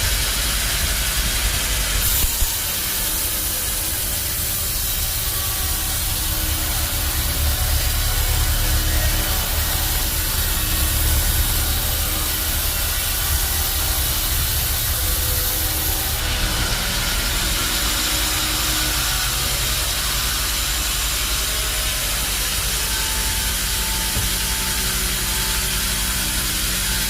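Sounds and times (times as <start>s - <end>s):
sawmill machinery humming and hissing: 0.0s - 27.0s.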